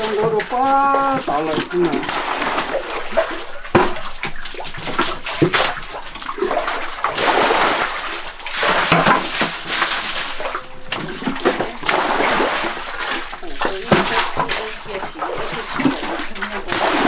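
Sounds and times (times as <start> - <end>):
water splashing in a pond: 0.0 - 17.0.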